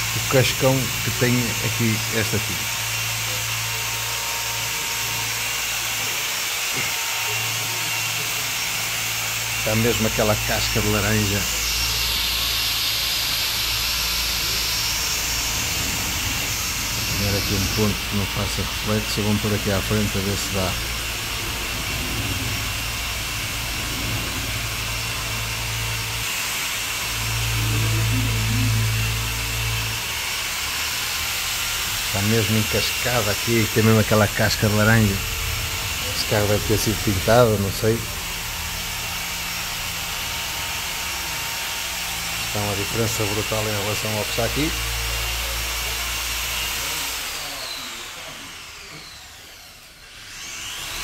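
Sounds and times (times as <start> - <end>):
machine polisher running: 0.0 - 51.0
power tool droning: 0.0 - 51.0.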